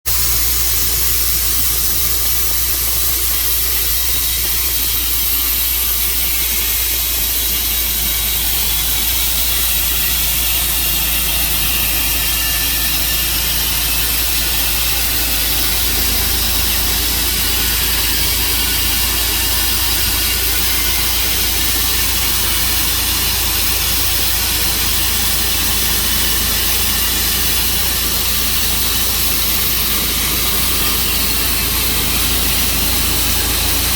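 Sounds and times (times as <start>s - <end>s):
sawmill engine droning: 0.0s - 33.9s.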